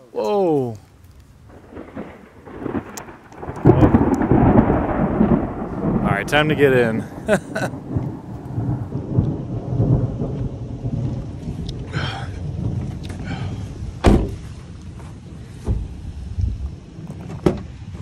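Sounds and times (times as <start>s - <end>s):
rain falling: 0.0s - 18.0s
thunder rumble: 0.9s - 18.0s.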